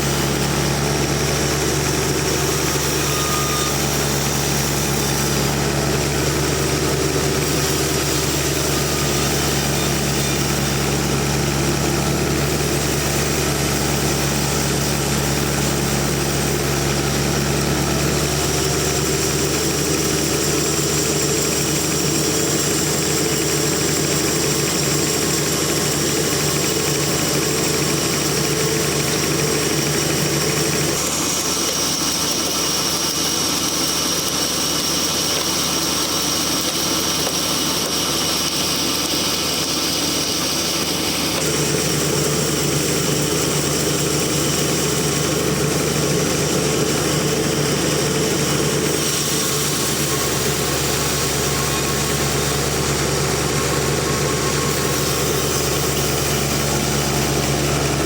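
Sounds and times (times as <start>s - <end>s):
sawmill machine engine drone: 0.0s - 58.0s.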